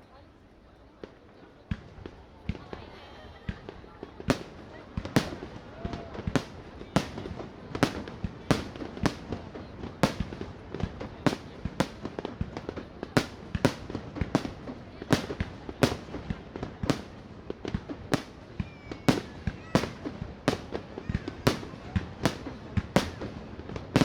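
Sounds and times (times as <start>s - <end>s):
fireworks bangs with echo: 1.7s - 24.0s.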